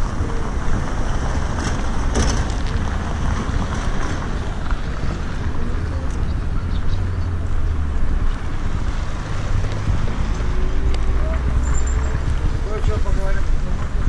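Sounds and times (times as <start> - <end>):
faint street noise: 0.0 - 14.0
wind buffeting microphone: 0.0 - 14.0.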